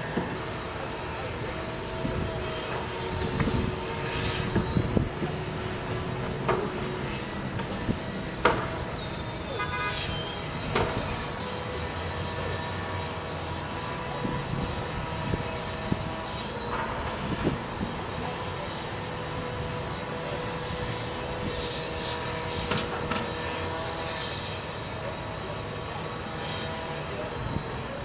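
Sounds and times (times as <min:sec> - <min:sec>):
engine hum: 0:00.0 - 0:28.0.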